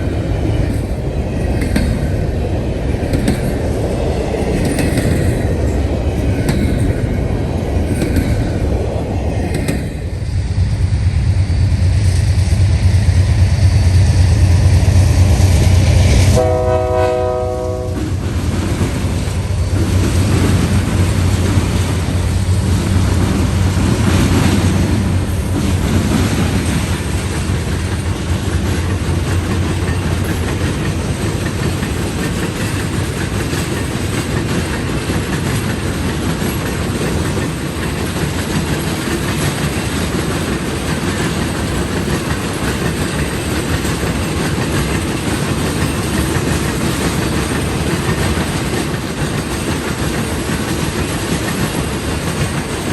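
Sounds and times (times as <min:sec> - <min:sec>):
diesel locomotive hum: 0:00.0 - 0:52.9
train wheels clacking on track: 0:00.0 - 0:52.9.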